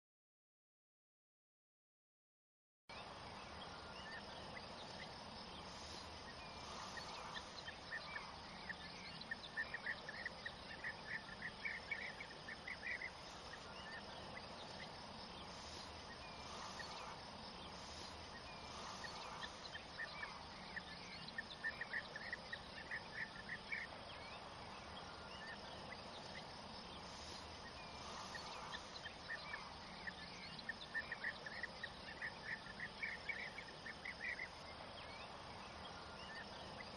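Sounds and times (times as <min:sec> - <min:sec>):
insects buzzing: 0:02.9 - 0:36.9.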